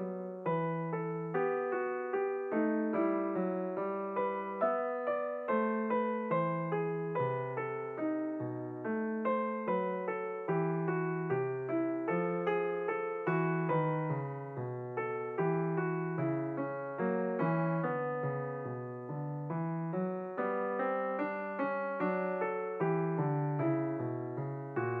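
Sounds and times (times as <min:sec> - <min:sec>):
piano melody over chords: 0:00.0 - 0:25.0.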